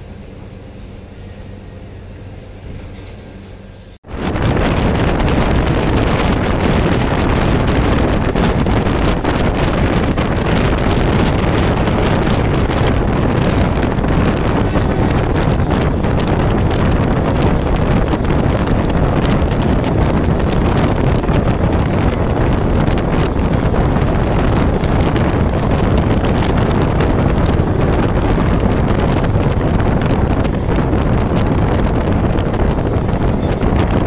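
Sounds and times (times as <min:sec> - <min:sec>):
moving train running noise: 0:00.0 - 0:34.0
wind buffeting microphone: 0:04.0 - 0:34.0.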